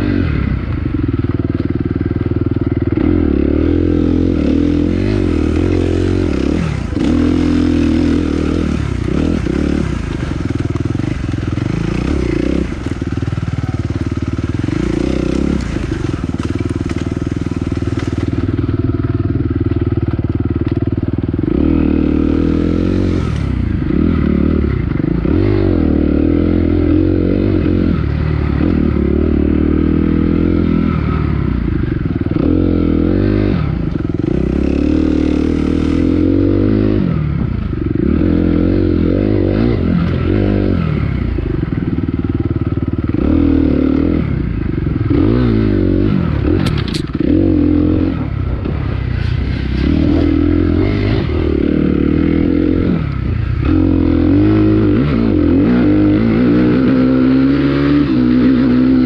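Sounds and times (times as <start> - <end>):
dirt bike engine revving: 2.3 - 20.4, 21.3 - 59.0.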